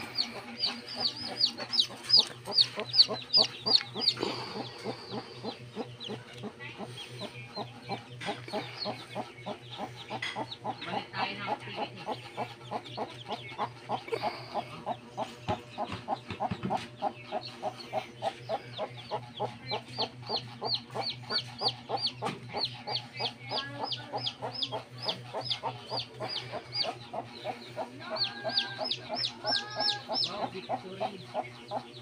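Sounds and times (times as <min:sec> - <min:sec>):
chicks peeping: 0:00.0 - 0:32.0
hen clucking: 0:00.0 - 0:32.0.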